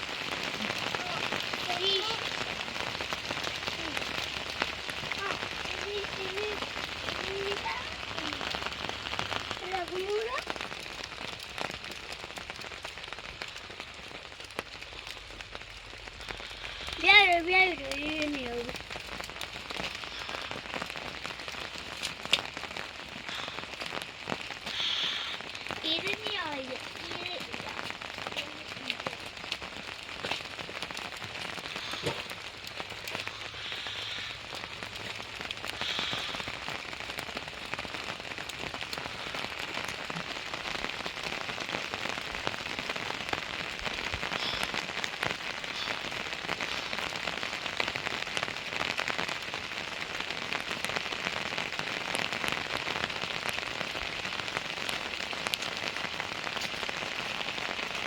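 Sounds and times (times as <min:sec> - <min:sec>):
rain drops striking a surface: 0:00.0 - 0:58.0.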